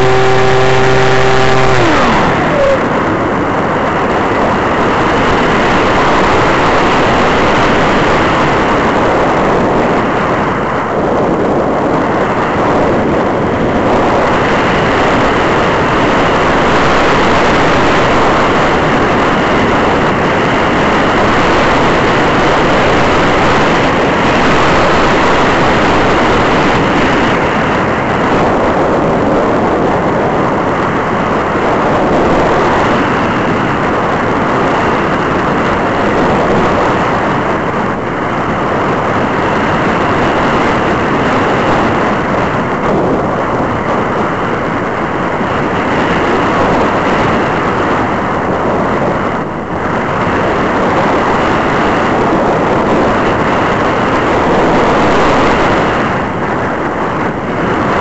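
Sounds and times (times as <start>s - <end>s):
loud wind rush on camera: 0.0s - 58.0s.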